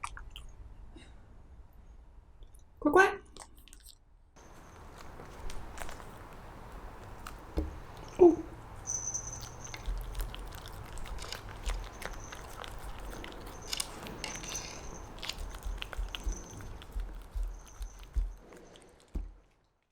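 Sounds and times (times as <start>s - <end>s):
dog chewing fruit: 3.4s - 19.6s.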